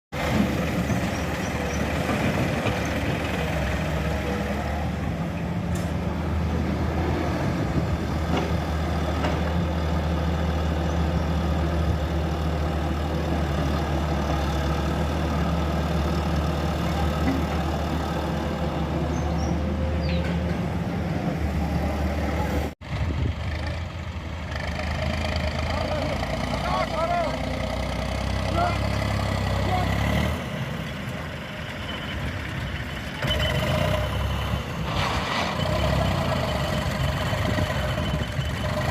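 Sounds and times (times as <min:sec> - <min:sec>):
tractor engine running steadily: 0:00.1 - 0:38.9.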